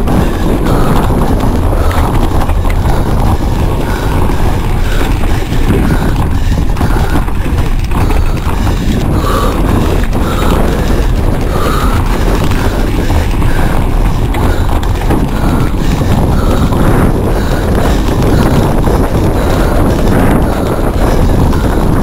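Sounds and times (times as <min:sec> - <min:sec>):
bicycle rumbling over rough trail: 0:00.0 - 0:22.0
bike rattling: 0:00.0 - 0:22.0.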